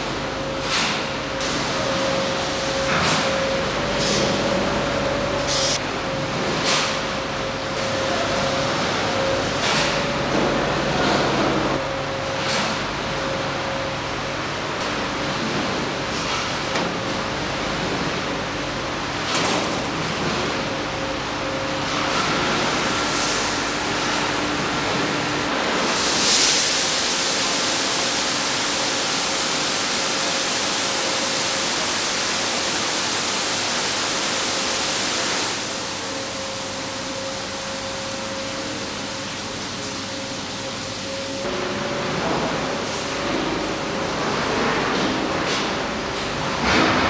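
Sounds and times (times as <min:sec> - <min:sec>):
faint machine hum: 0:00.0 - 0:47.0.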